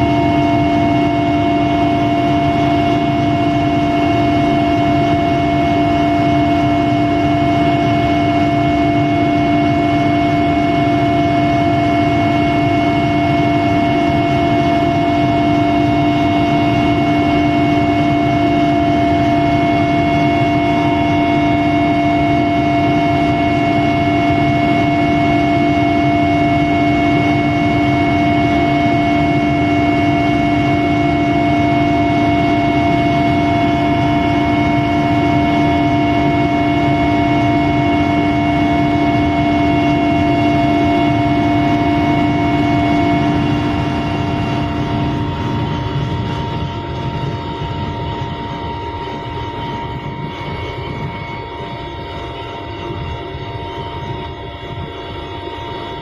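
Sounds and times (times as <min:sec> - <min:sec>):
aircraft engine in flight: 0:00.0 - 0:56.0.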